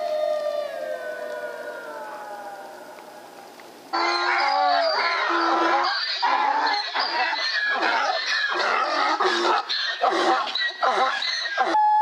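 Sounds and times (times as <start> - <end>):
coyotes yipping and howling: 0.0 - 3.4, 4.0 - 12.0.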